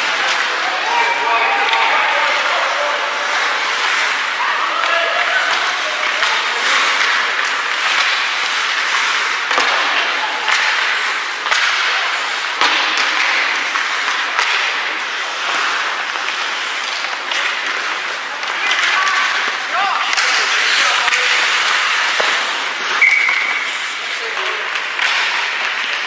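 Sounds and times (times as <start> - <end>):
skates scraping ice: 0.0 - 26.0
sticks striking puck: 0.0 - 26.0.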